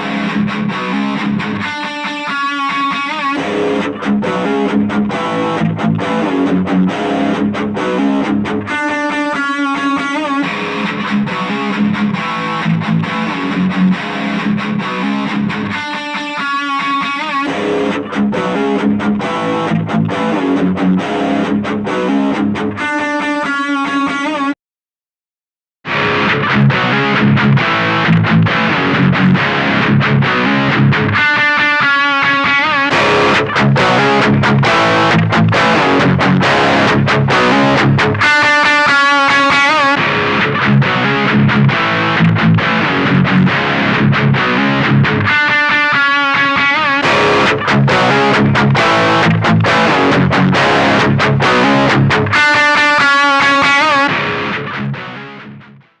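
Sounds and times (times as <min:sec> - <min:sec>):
distorted electric guitar riff: 0:00.0 - 0:24.6, 0:25.8 - 0:56.0.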